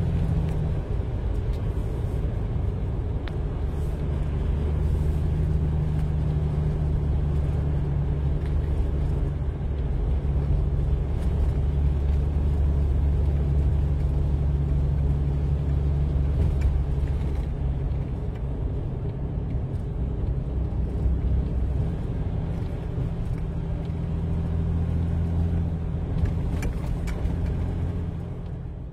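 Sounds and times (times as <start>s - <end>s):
road and tyre noise: 0.0s - 28.9s
truck engine drone: 0.0s - 28.9s.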